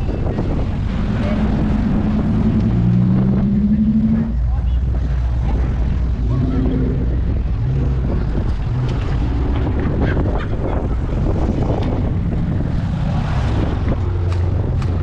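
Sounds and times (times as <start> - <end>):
car engines rumbling past: 0.0 - 15.0
wind buffeting microphone: 0.0 - 15.0.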